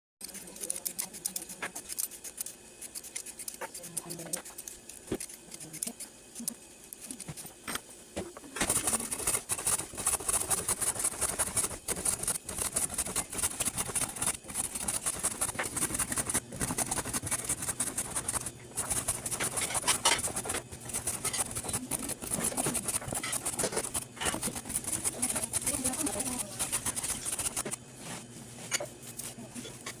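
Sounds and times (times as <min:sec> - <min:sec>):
carrot scraping against metal blade: 0:00.2 - 0:07.4, 0:08.6 - 0:27.8.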